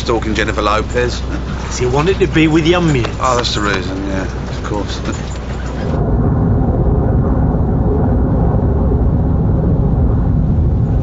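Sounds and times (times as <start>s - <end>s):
aircraft engines deep rumble: 0.0s - 11.0s.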